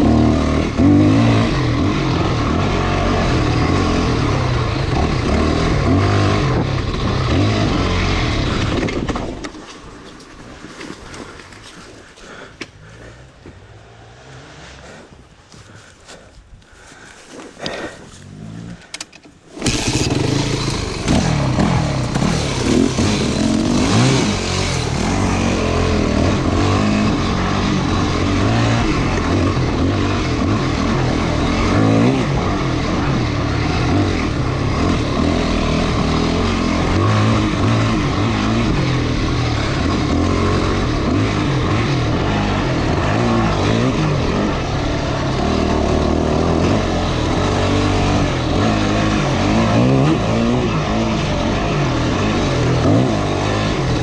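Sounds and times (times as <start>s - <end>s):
motorcycle engine revving: 0.0s - 9.6s, 17.6s - 54.0s.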